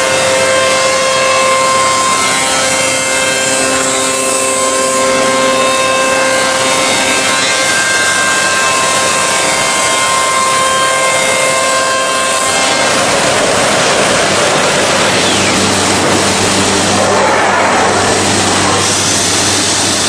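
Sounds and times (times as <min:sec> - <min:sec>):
loud machining noise: 0:00.0 - 0:20.0
woodworking machine whine: 0:00.0 - 0:20.0.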